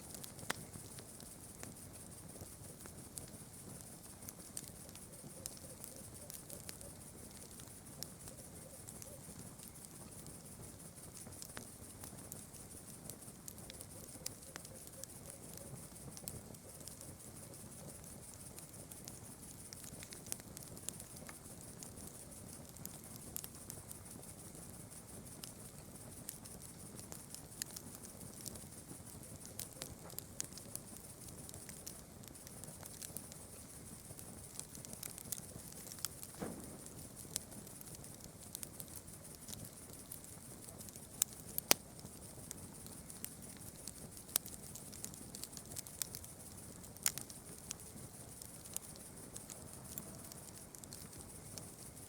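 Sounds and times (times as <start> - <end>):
campfire crackling: 0.0 - 52.0
night insects chirring: 0.0 - 52.0.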